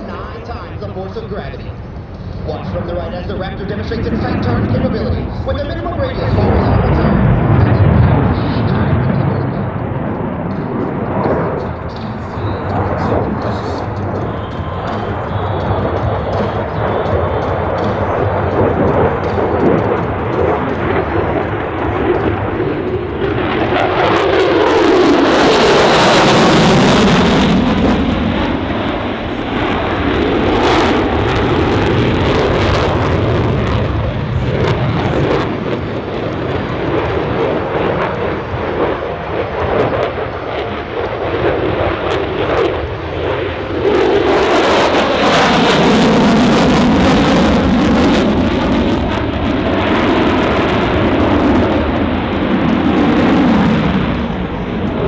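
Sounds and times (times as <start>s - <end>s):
jet engines crackling roar: 0.0s - 55.0s.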